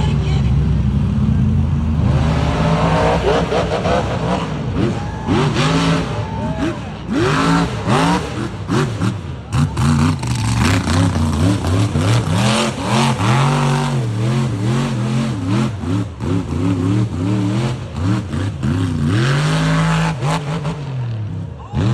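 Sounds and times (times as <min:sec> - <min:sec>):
truck engine revving: 0:00.0 - 0:21.9.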